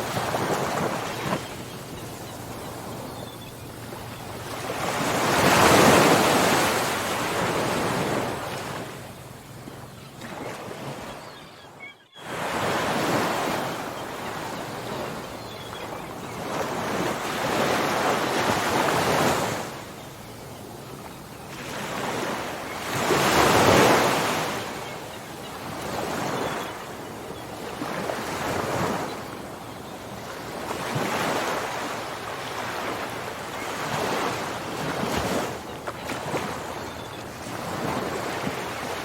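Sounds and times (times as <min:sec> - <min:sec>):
ocean waves washing ashore: 0:00.0 - 0:11.4, 0:12.2 - 0:39.0.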